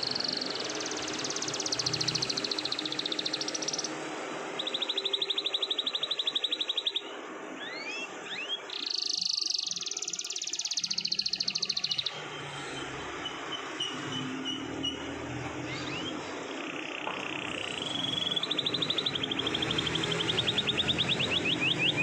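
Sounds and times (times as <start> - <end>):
canary trilling: 0.0 - 22.0.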